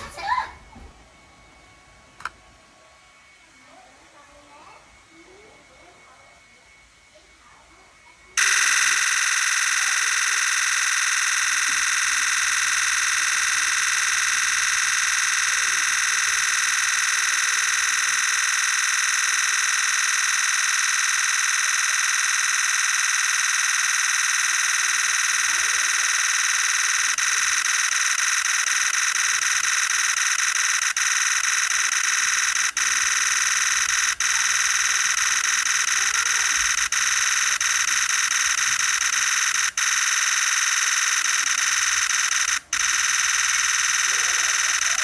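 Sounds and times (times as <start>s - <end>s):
camera shutter burst chatter: 8.4s - 45.0s.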